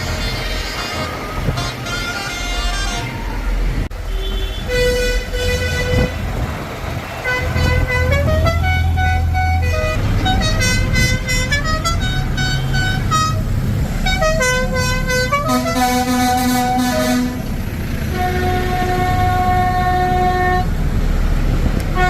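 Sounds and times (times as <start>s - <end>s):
musical horns tooting a tune: 0.0s - 3.2s, 4.0s - 6.2s, 7.2s - 20.7s
tractor engines humming: 0.0s - 22.0s.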